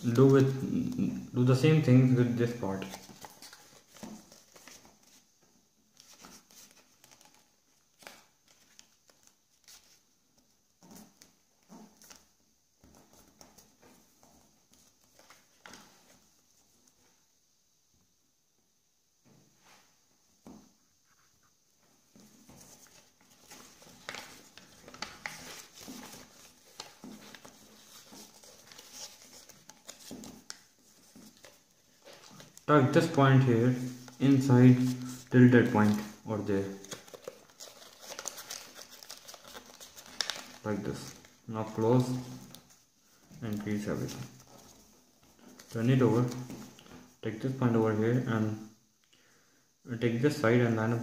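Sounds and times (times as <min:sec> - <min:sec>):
paper rustling and creasing: 0:00.0 - 0:17.2, 0:22.1 - 0:47.7.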